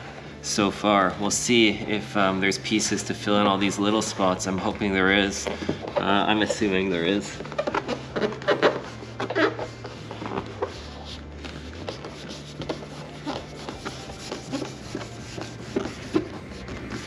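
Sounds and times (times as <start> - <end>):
hands rubbing vinyl film: 1.2 - 17.0.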